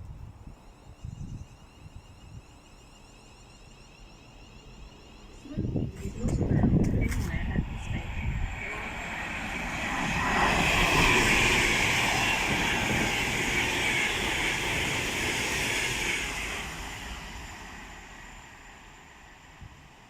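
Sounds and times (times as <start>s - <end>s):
train passing at speed: 0.1s - 20.0s.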